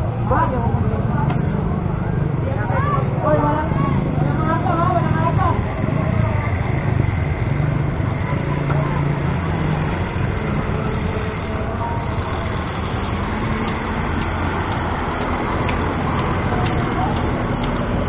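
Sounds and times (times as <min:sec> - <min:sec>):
faint crowd voices: 0:00.0 - 0:18.0
vehicle engine running: 0:00.0 - 0:18.0.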